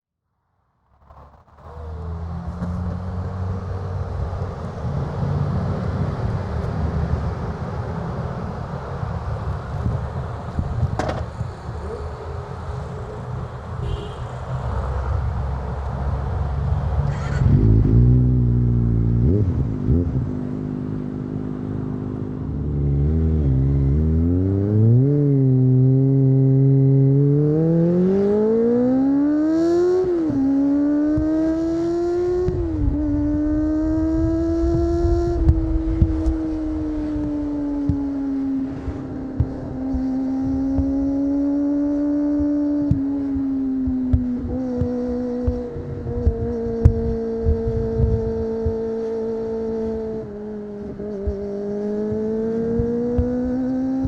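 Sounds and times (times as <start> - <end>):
motorcycle engine revving and accelerating: 0.9 - 54.0.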